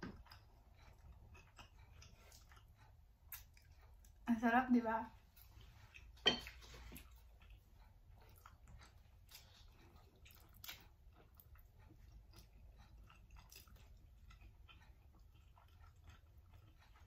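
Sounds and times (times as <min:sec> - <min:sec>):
chewing noodles: 0:00.0 - 0:04.3, 0:05.1 - 0:17.0.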